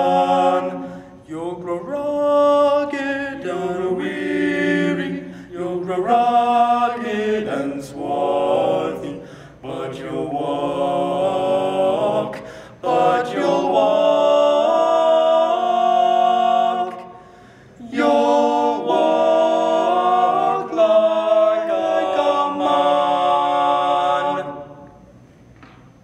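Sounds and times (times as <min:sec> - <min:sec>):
men singing a cappella: 0:00.0 - 0:24.9.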